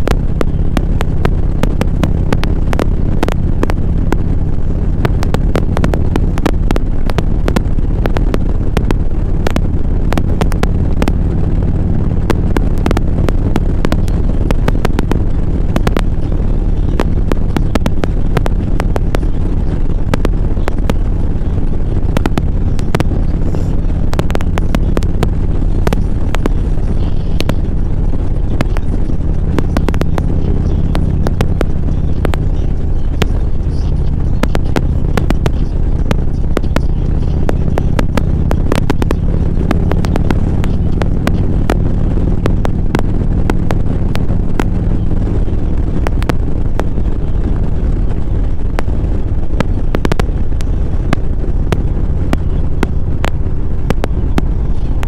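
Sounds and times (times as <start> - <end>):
sharp clicks: 0.0 - 55.0
vehicle engine and road noise: 0.0 - 55.0.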